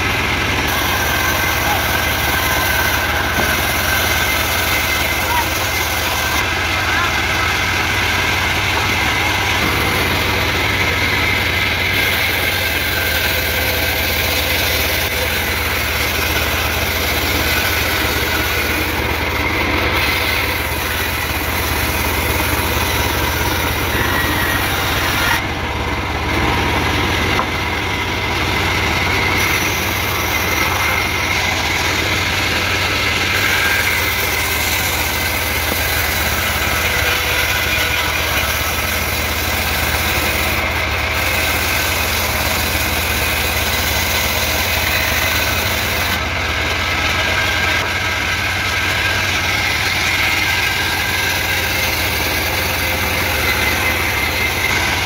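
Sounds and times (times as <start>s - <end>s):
band sawmill cutting timber: 0.0s - 55.0s.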